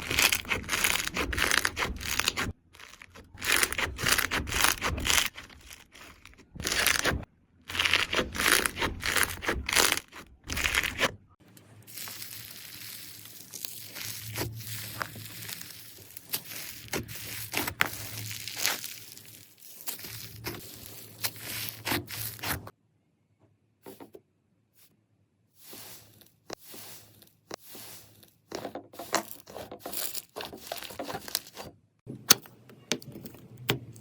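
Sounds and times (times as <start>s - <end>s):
slime crackling and crunching: 0.0s - 11.2s, 11.8s - 22.7s, 25.6s - 31.6s.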